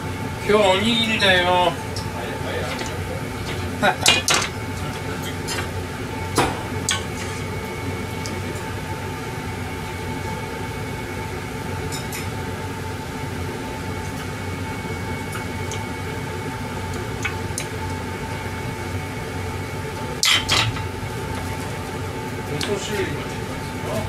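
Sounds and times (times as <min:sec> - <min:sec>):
kitchen appliance humming: 0:00.0 - 0:24.0.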